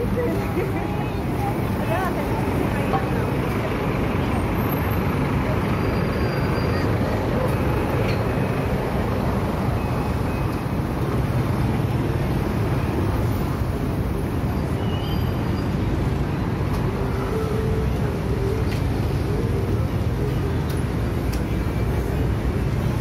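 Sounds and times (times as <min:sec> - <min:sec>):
cars: 0:00.0 - 0:23.0.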